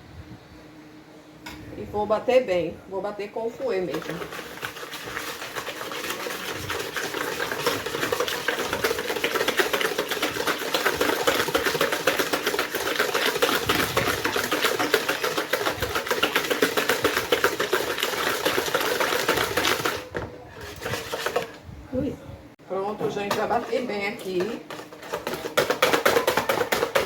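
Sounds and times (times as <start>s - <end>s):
whisk clattering against bowl: 3.7s - 21.6s, 23.0s - 27.0s.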